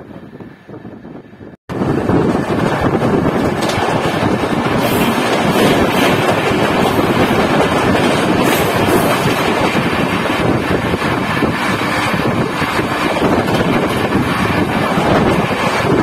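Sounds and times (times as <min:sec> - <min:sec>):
passing train rushing by: 0:00.0 - 0:16.0
wind buffeting microphone: 0:00.0 - 0:16.0.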